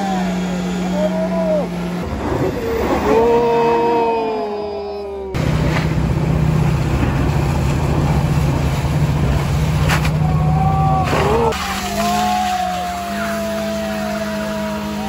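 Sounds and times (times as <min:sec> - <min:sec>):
vehicle engine droning uphill: 0:00.0 - 0:15.0.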